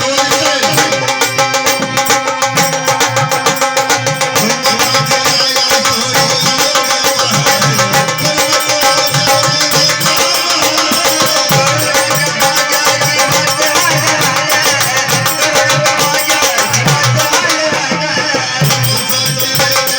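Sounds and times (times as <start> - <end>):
fast steady drumming: 0.0 - 19.9
held instrumental tones: 0.0 - 19.9.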